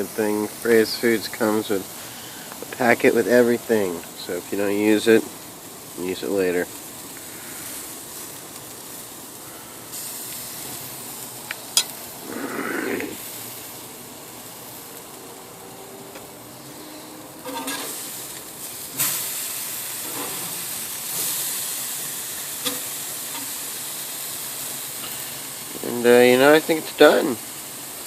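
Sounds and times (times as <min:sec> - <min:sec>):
meat sizzling on a grill: 0:00.0 - 0:28.0.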